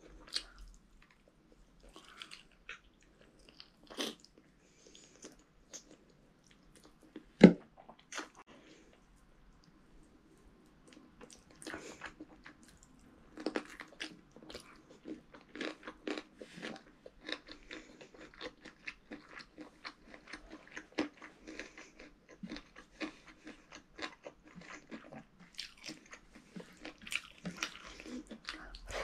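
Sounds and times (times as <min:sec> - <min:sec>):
person chewing with mouth smacks: 0:00.1 - 0:09.0, 0:10.8 - 0:29.0.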